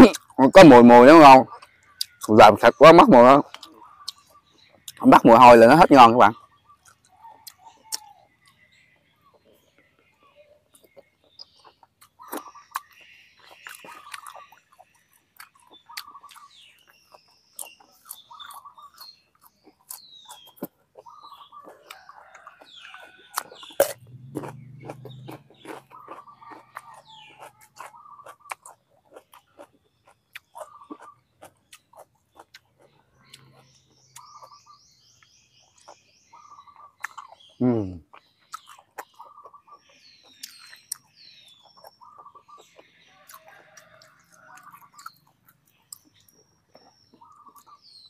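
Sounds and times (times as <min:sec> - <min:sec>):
wet chewing mouth sounds: 0:00.0 - 0:02.3, 0:03.2 - 0:05.2, 0:06.4 - 0:09.9, 0:10.6 - 0:48.0
birds chirping faintly: 0:00.0 - 0:48.0.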